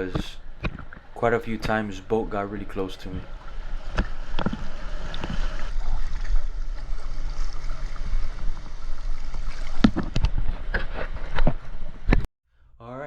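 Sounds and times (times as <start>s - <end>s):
seawater sloshing and gurgling: 0.0s - 12.1s.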